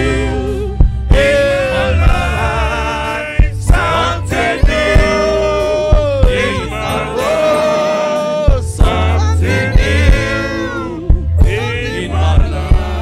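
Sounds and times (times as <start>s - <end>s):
drum hits: 0.0s - 7.6s, 8.5s - 13.0s
bass line: 0.0s - 13.0s.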